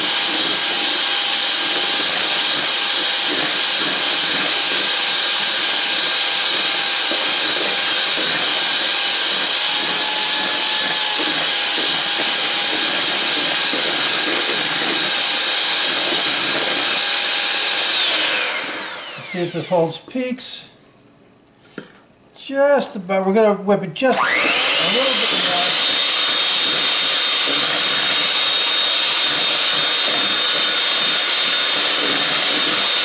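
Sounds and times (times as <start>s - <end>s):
electric hand mixer whirring: 0.0s - 19.9s, 24.1s - 33.0s.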